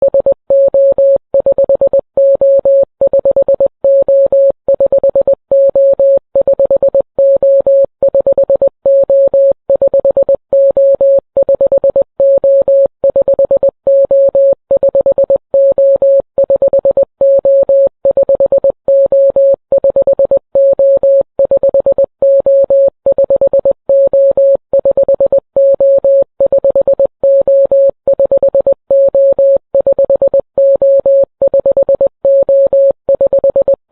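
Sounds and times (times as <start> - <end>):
morse code beeps: 0.0 - 33.9.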